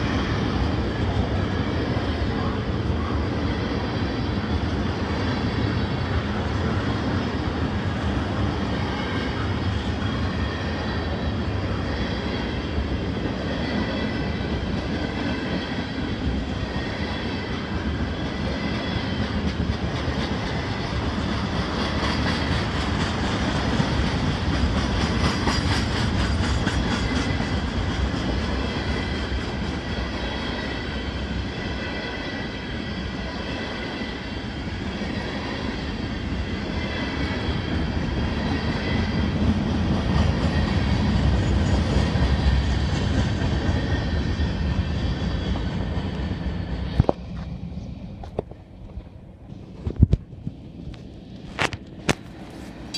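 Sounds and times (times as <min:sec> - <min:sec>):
freight train wheels rumbling: 0:00.0 - 0:52.9
train wheels clickety-clack: 0:00.0 - 0:52.9.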